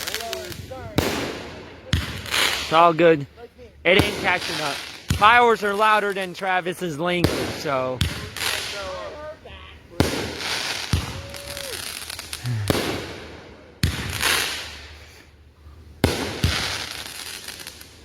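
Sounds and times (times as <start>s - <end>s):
fireworks bangs: 0.0s - 3.1s, 3.9s - 9.2s, 10.0s - 15.2s, 16.0s - 18.0s.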